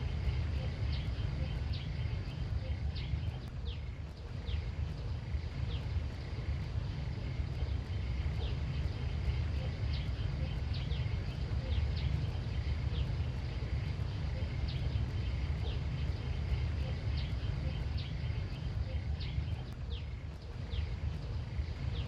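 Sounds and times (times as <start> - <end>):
faint high hum: 0.0 - 22.0
low rumble of wind on microphone: 0.0 - 22.0.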